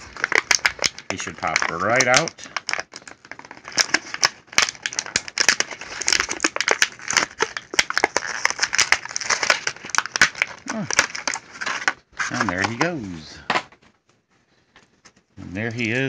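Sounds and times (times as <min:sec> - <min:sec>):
plastic blister tray crinkling: 0:00.0 - 0:14.0.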